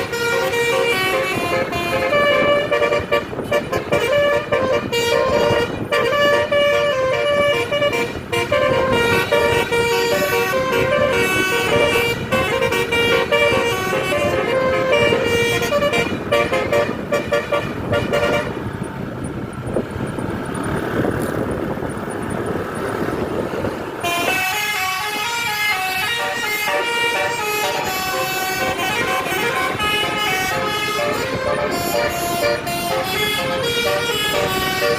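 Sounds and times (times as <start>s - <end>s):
bus horn playing a melody: 0.0s - 18.8s, 24.0s - 34.9s.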